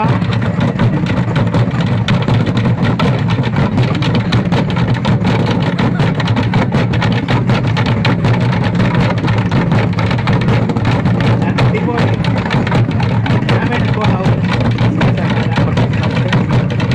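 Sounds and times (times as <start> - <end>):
distorted low rumble: 0.0 - 16.9
fast drumming and percussion: 0.0 - 16.9.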